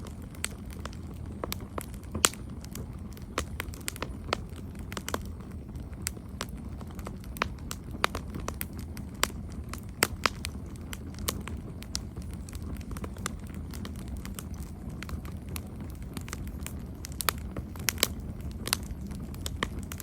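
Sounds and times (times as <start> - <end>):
burning wood popping and snapping: 0.0 - 20.0
campfire rumbling: 0.0 - 20.0.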